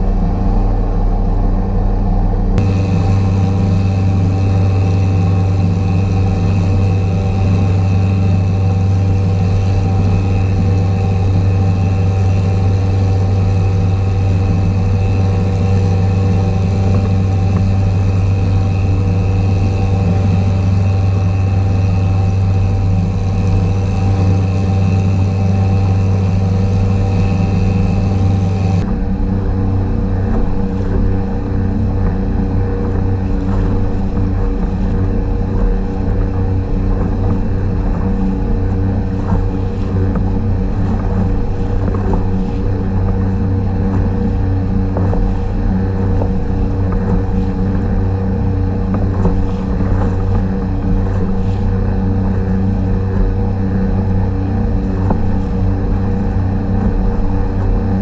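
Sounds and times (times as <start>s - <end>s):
outboard engine running: 0.0s - 58.0s
wind noise: 0.0s - 58.0s.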